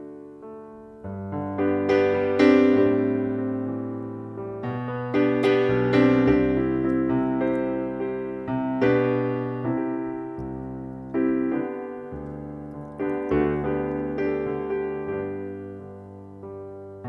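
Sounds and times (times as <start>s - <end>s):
slow quiet piano chords: 0.0s - 17.0s.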